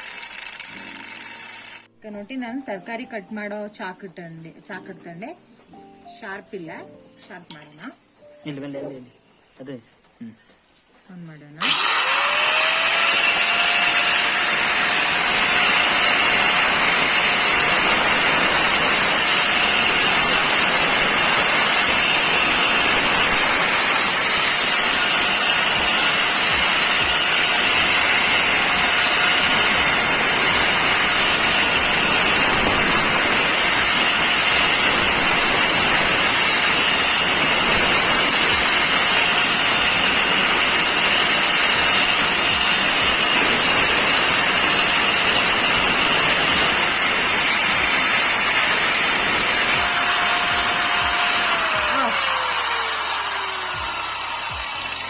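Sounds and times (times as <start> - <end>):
angle grinder grinding knife: 0.0 - 4.0, 11.6 - 55.0.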